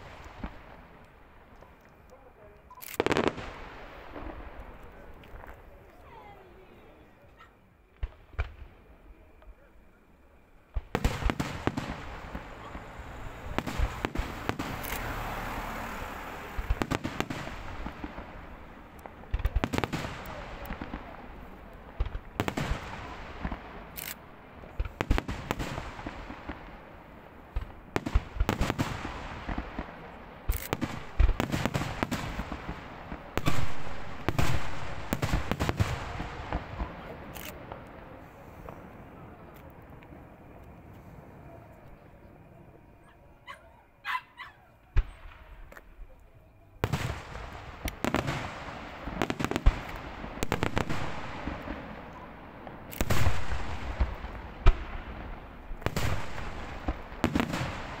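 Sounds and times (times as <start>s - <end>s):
fireworks bangs and crackling: 0.0s - 44.0s, 44.8s - 58.0s.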